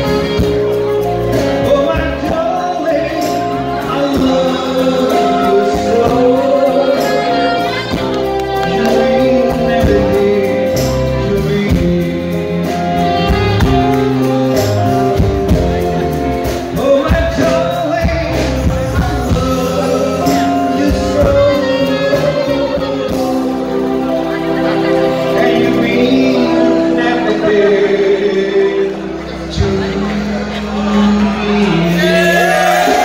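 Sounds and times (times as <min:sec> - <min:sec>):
live band playing: 0:00.0 - 0:33.0
man singing into a microphone: 0:00.0 - 0:33.0.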